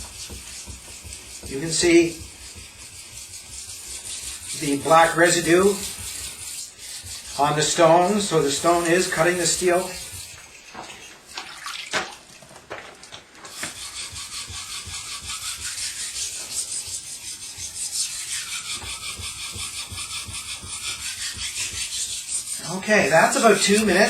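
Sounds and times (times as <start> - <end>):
knife scraping on whetstone: 0.0 - 11.6, 13.4 - 24.0.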